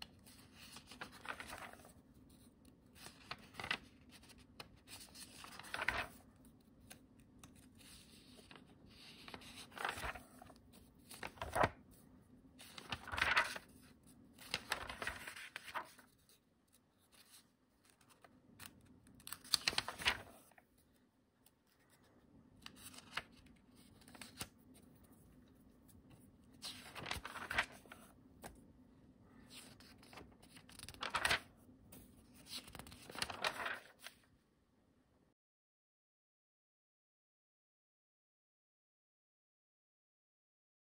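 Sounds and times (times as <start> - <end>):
paper pages rustling: 0.1 - 28.6, 29.3 - 34.3.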